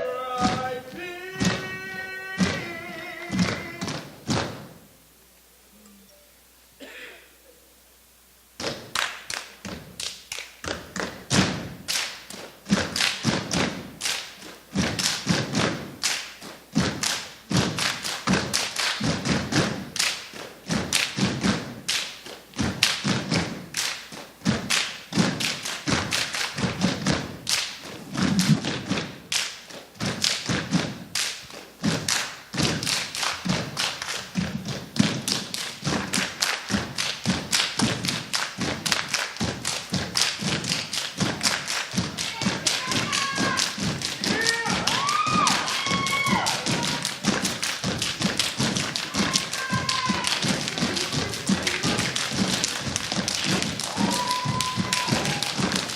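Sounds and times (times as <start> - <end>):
rhythmic stomps and body percussion: 0.0 - 4.9, 8.5 - 55.9.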